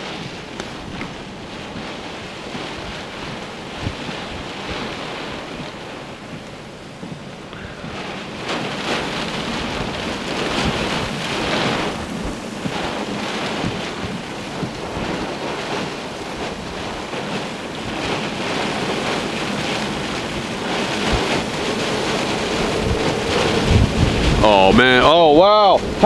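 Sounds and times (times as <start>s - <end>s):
wind gusts on microphone: 0.0s - 26.0s
wind-driven rain: 0.0s - 26.0s.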